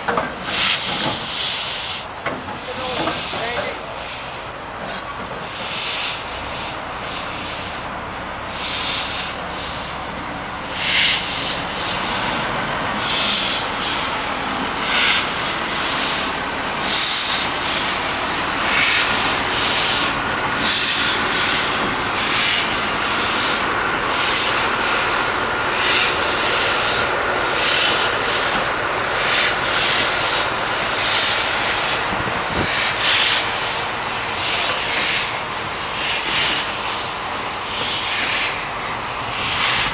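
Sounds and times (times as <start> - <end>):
steam hissing: 0.0 - 39.9
steam locomotive exhaust chuffs: 0.0 - 39.9.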